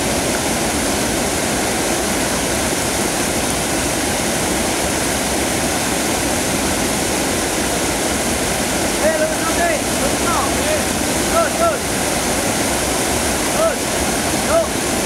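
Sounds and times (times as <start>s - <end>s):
water rushing over a weir: 0.0s - 15.0s.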